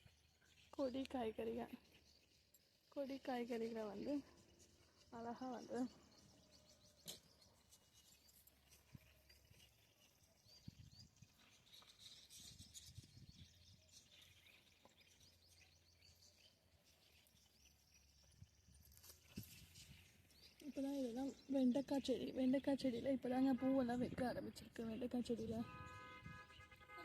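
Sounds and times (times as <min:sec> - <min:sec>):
distant birds chirping: 0:00.0 - 0:27.0.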